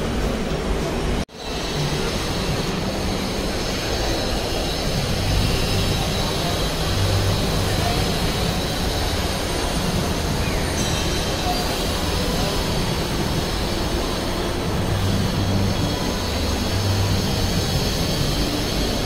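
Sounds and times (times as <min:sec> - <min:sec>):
crowd hubbub: 0:00.0 - 0:19.0.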